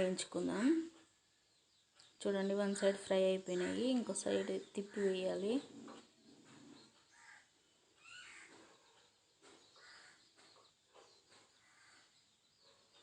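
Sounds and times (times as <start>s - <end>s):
faint bird calls: 1.8s - 13.0s.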